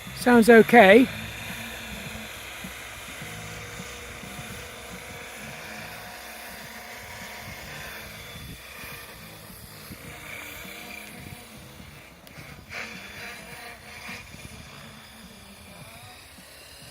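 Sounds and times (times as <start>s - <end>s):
motor and gear whine: 0.0s - 16.9s
rotors pulsing hum: 0.0s - 16.9s.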